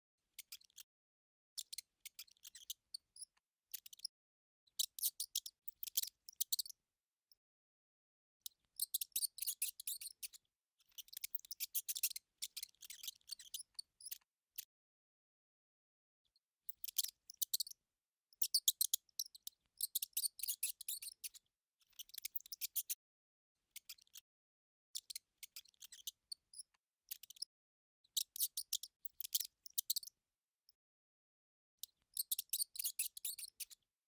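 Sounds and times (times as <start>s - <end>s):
mouse clicks and squeaks: 0.2s - 0.9s, 1.6s - 7.4s, 8.4s - 14.8s, 16.3s - 23.0s, 23.7s - 30.8s, 31.8s - 33.9s.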